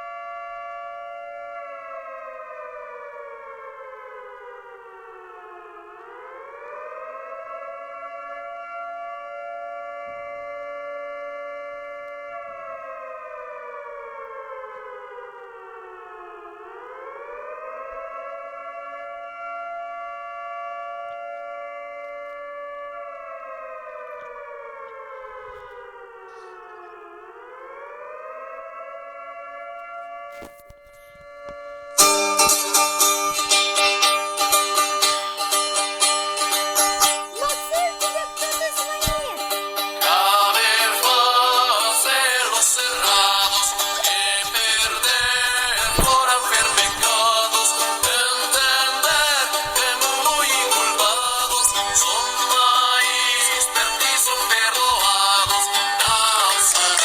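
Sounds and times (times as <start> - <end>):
siren-like wailing tone: 0.0 - 57.0.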